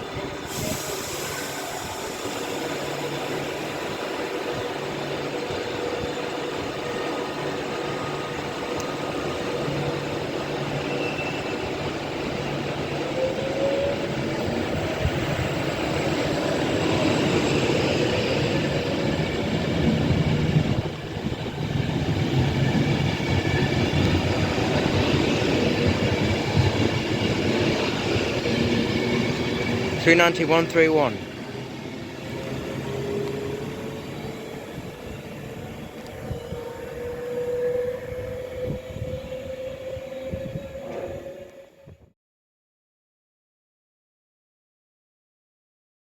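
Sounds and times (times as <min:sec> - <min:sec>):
train whine rising: 0:00.0 - 0:42.1.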